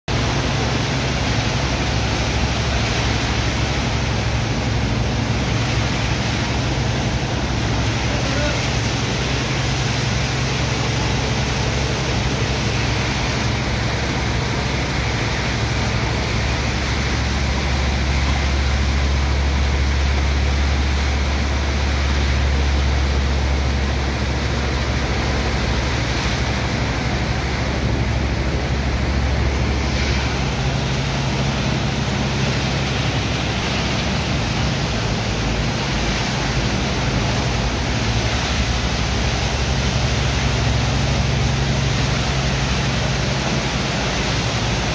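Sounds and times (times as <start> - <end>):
low machine drone: 0.1 - 44.9
water jets blasting into sand: 0.1 - 44.9.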